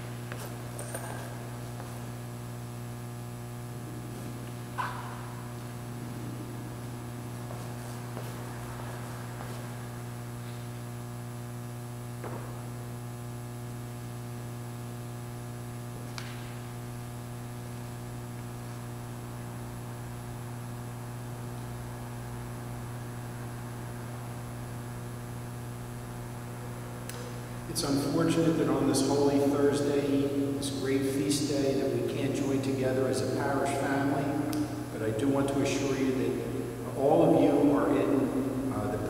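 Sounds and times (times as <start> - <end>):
low electrical mains hum: 0.0 - 39.0.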